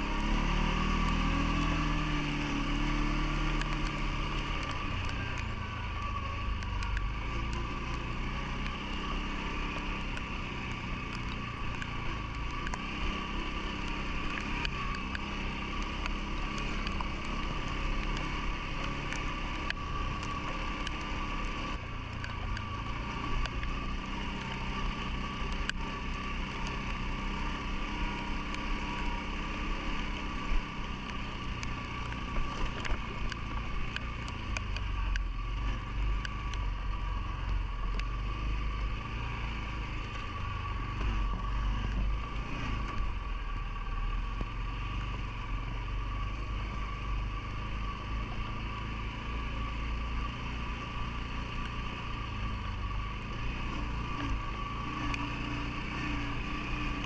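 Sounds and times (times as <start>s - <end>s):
atv engine running: 0.0s - 57.0s
small ticks: 0.6s - 57.0s.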